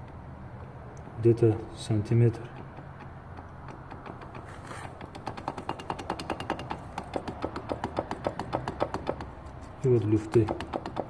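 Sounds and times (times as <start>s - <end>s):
metallic clicks and knocks: 0.0s - 11.0s.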